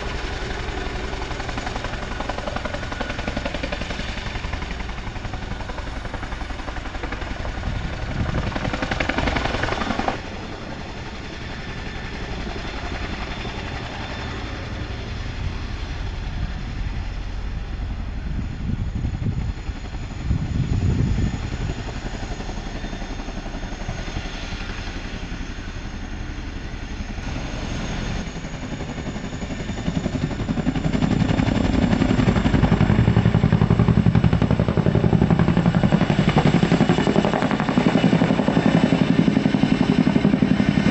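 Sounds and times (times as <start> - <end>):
turbine noise: 0.0 - 33.9
helicopter rotor chop: 0.0 - 40.9.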